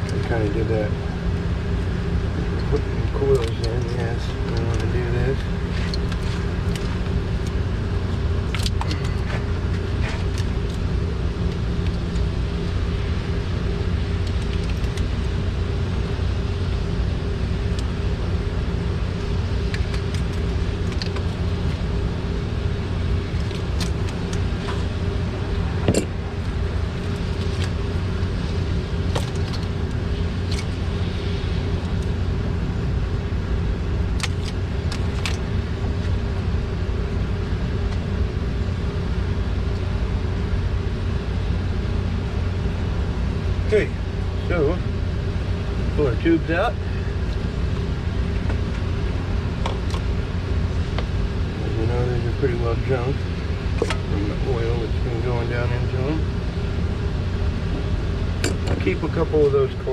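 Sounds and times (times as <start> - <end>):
low machinery hum: 0.0 - 59.9.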